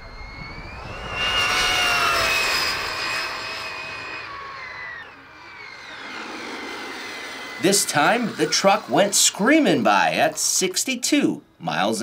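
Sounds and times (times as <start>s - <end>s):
rc truck motor whine: 0.0s - 10.4s.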